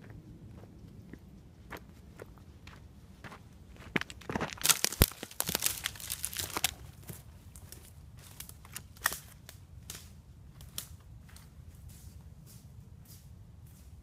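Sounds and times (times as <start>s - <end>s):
footsteps crunching on forest floor: 0.0s - 14.0s.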